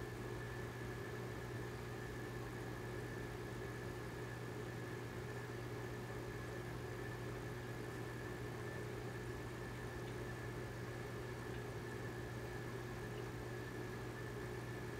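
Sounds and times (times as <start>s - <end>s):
aquarium air pump humming: 0.0s - 14.9s.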